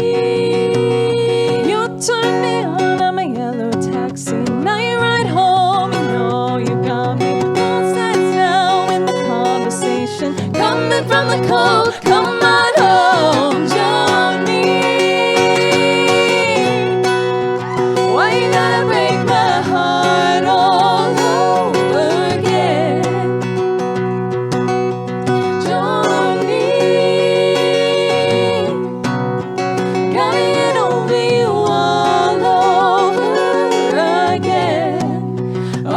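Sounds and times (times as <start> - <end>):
guitar accompaniment: 0.0 - 35.9.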